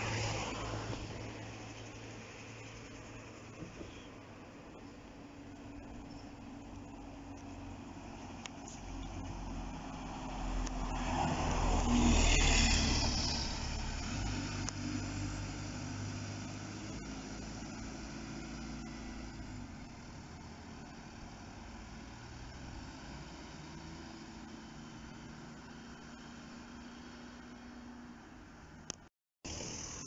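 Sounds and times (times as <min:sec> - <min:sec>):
bus passing by: 0:00.0 - 0:28.6.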